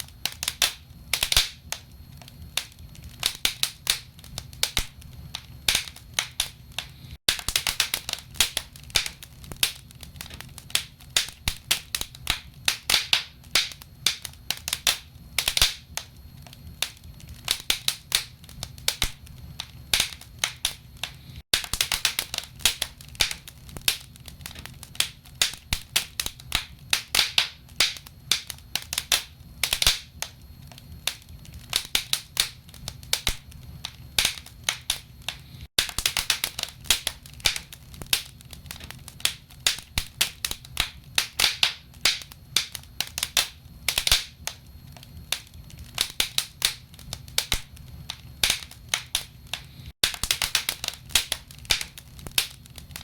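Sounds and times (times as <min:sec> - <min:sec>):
logs crackling and popping: 0:00.0 - 0:53.0
low steady fire rumble: 0:00.0 - 0:53.0.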